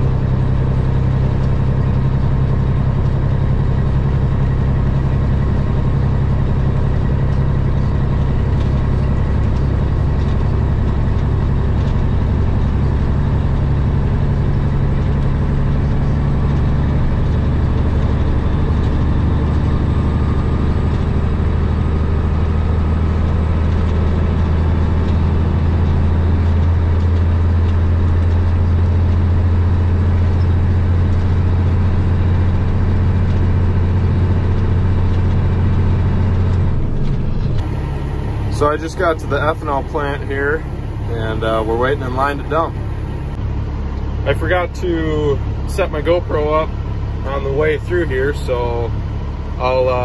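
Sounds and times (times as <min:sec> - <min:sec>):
road noise: 0:00.0 - 0:50.0
truck diesel engine droning: 0:00.0 - 0:50.0.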